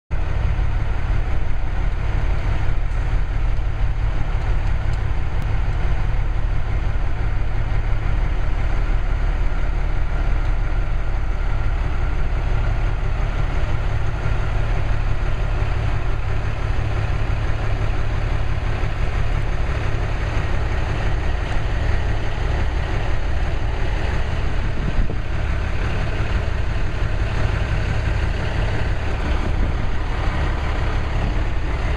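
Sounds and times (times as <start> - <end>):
diesel truck engine drone: 0.1 - 31.9.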